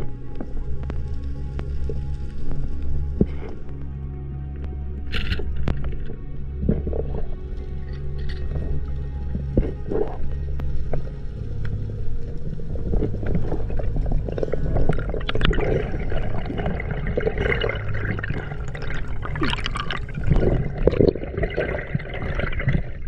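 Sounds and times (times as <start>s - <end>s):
steady low drone: 0.0s - 22.6s
water splashing and gurgling: 0.0s - 23.0s.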